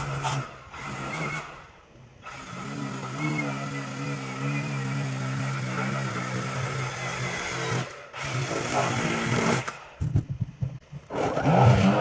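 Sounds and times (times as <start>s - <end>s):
string trimmer running: 0.0s - 10.0s.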